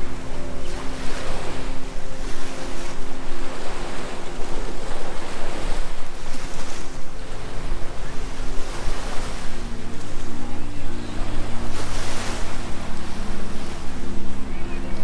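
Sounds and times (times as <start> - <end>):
waves breaking on sand: 0.0 - 15.0.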